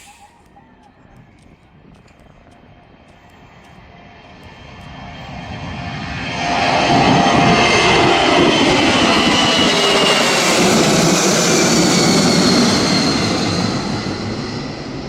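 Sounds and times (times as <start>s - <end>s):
jet engine whine: 0.0s - 15.0s
jet engines roaring: 1.7s - 15.0s.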